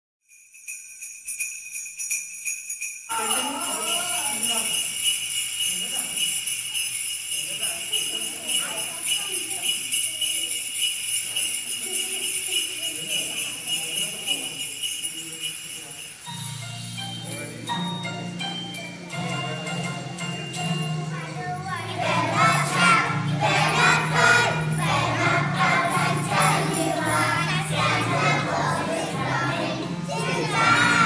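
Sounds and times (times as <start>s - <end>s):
sleigh bells jingling: 0.2s - 31.0s.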